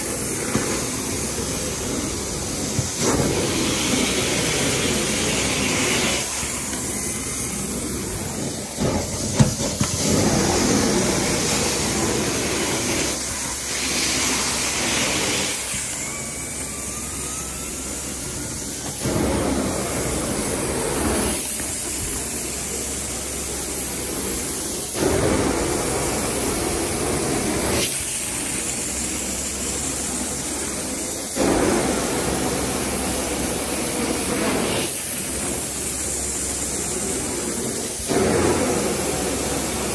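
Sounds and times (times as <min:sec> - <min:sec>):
hot water spray hiss: 0:00.0 - 0:39.9.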